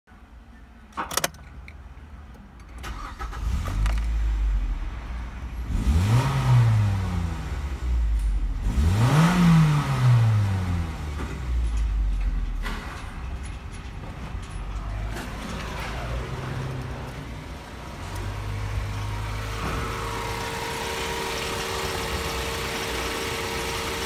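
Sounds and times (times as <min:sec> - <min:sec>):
car engine starting and revving: 0:02.8 - 0:13.1, 0:14.8 - 0:24.0.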